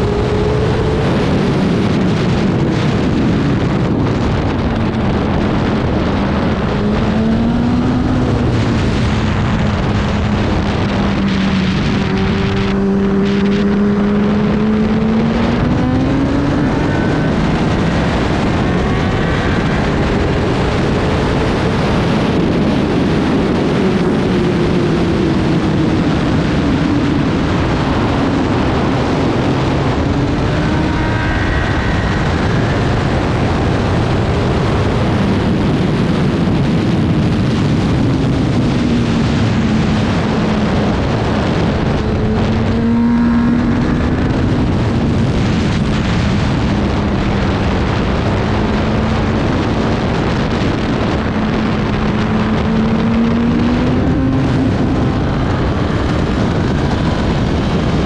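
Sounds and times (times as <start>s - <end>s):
racing motorcycle engine: 0.0s - 58.0s
wind rush over microphone: 0.0s - 58.0s.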